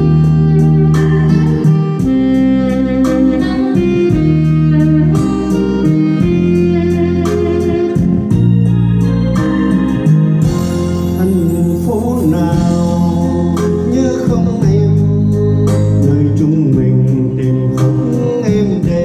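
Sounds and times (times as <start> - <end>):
bass line: 0.0 - 19.0
electronic keyboard chords: 0.0 - 19.0.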